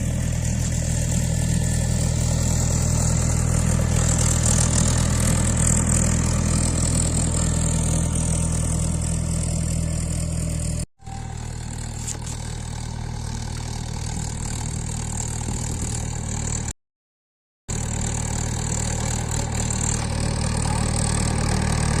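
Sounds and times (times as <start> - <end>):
tractor diesel engine running: 0.0 - 16.7, 17.7 - 22.0.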